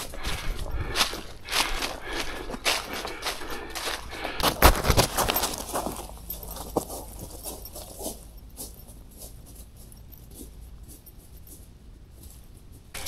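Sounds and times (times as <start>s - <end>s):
footsteps crunching on dirt road: 0.0s - 13.0s.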